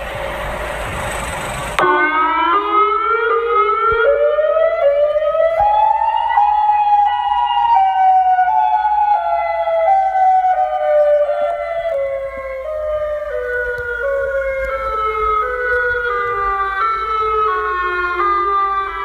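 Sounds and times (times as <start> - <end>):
electronic siren horn: 1.8 - 19.0.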